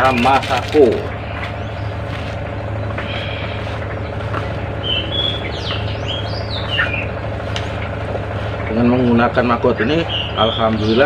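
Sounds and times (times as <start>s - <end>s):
small birds chirping and whistling: 0.0s - 11.0s
steady low hum: 0.0s - 11.0s.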